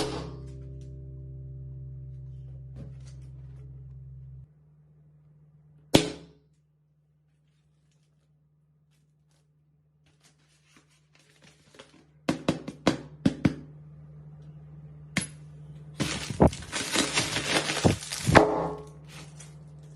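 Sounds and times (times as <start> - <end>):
low hum: 0.0 - 10.2, 13.1 - 19.9.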